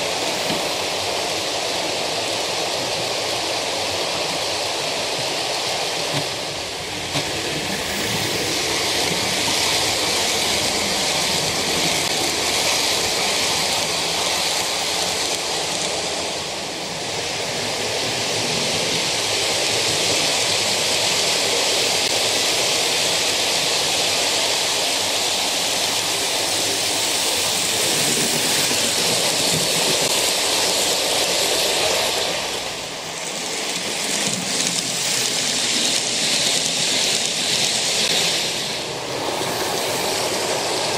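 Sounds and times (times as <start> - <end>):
model trains rumbling on track: 0.0 - 40.9.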